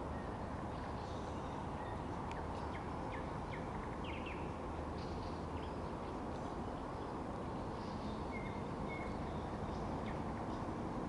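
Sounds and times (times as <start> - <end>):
low rushing background noise: 0.0 - 11.0
songbird chirping: 0.0 - 11.0.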